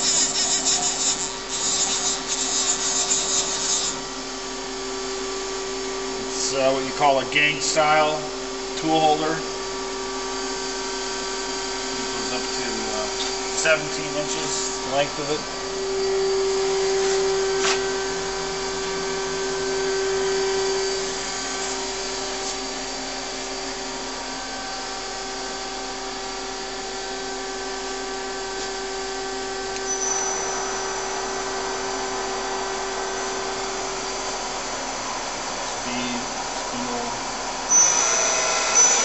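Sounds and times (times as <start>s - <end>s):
lathe running with mechanical whine: 0.0s - 39.0s.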